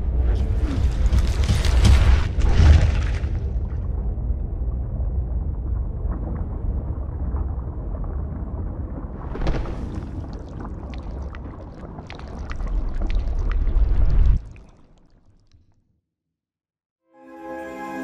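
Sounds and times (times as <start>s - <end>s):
deep continuous rumble: 0.0s - 14.5s.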